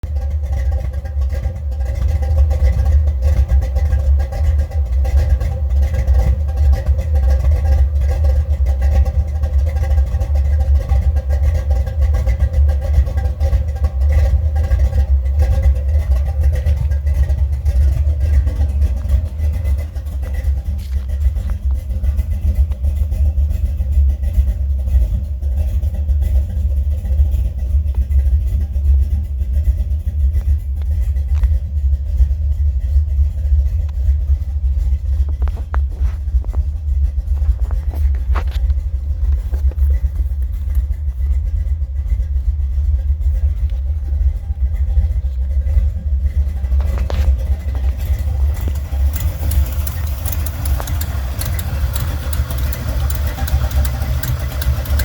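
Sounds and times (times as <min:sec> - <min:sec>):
car engine deep rumble: 0:00.0 - 0:55.0.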